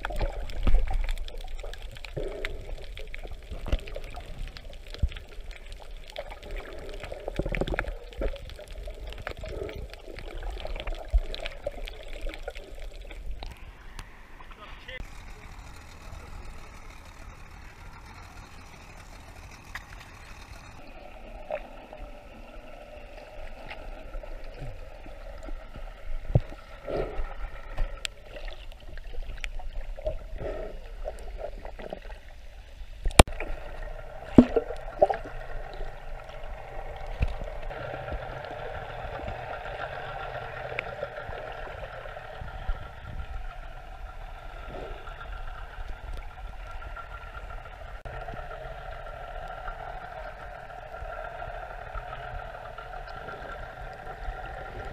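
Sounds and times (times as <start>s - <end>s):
muffled underwater sloshing and bubbling: 0.0s - 54.9s.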